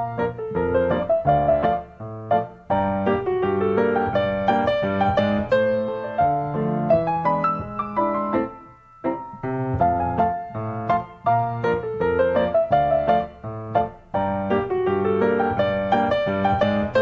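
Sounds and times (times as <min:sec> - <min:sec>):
solo ragtime piano: 0:00.0 - 0:17.0.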